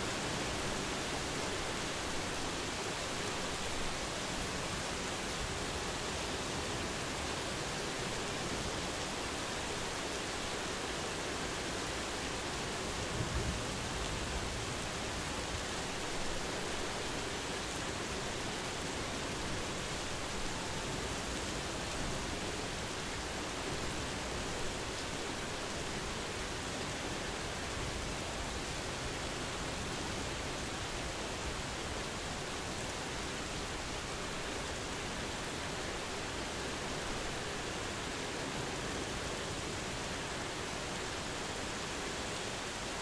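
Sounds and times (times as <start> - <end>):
rain falling steadily: 0.0 - 43.0.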